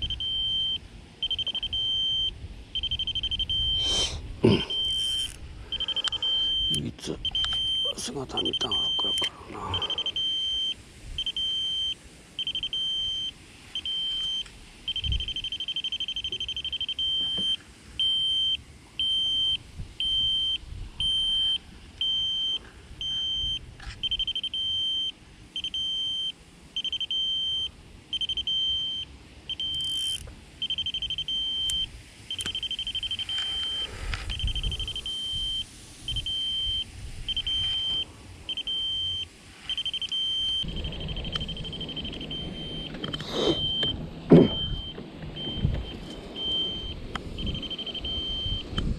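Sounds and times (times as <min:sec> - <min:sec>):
electronic alarm beeping: 0:00.0 - 0:03.9, 0:04.6 - 0:48.9
wind rumble: 0:00.0 - 0:08.8, 0:09.4 - 0:24.4, 0:30.2 - 0:48.9.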